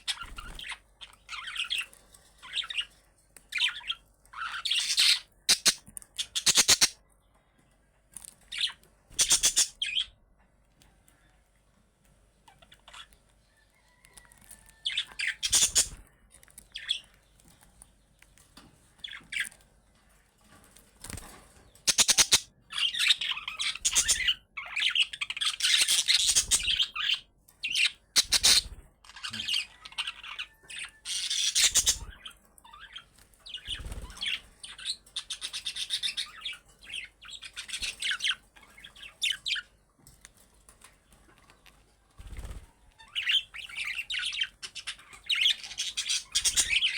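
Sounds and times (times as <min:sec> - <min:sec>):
budgerigars chirping and chattering: 0:00.0 - 0:07.0, 0:08.3 - 0:10.1, 0:12.4 - 0:17.6, 0:19.0 - 0:19.6, 0:21.1 - 0:39.8, 0:41.1 - 0:46.9.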